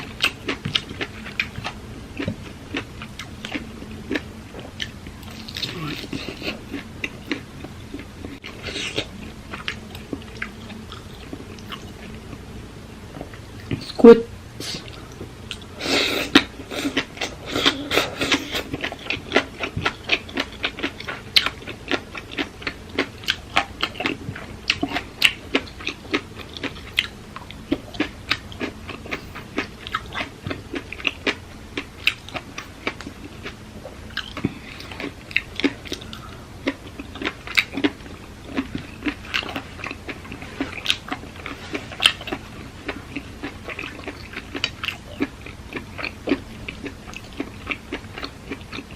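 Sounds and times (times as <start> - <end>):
person chewing and crunching food: 0.0 - 12.5, 14.6 - 48.9.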